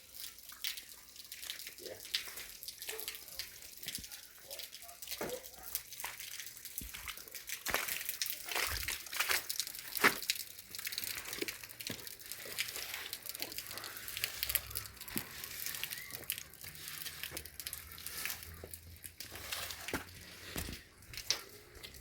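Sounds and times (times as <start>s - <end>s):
irregular crackling and rustling: 0.2s - 22.0s.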